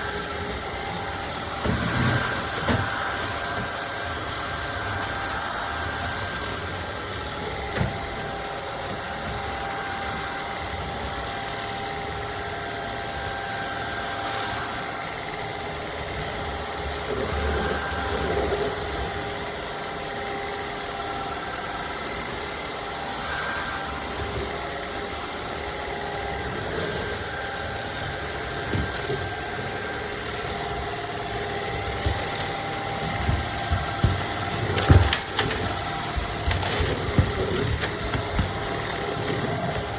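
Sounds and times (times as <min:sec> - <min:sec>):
vacuum cleaner motor humming: 0:00.0 - 0:39.9.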